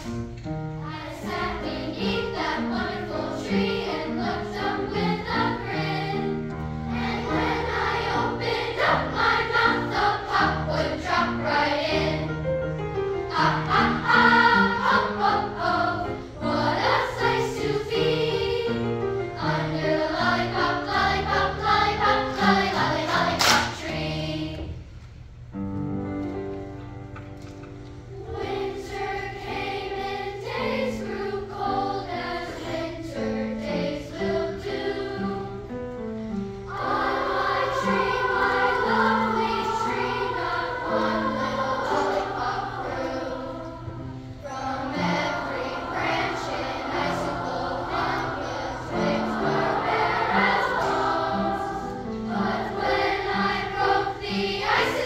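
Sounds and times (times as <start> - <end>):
children's choir singing: 0.0 - 25.0, 27.4 - 55.0.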